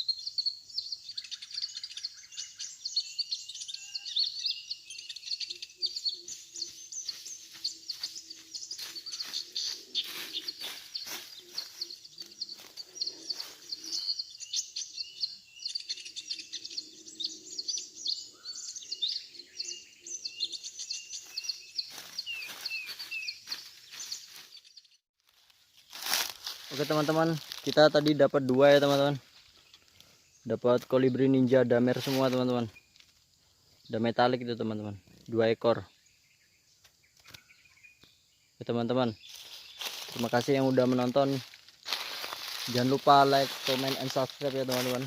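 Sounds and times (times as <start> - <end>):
birds chirping and twittering: 0.0 - 25.1, 25.8 - 45.0.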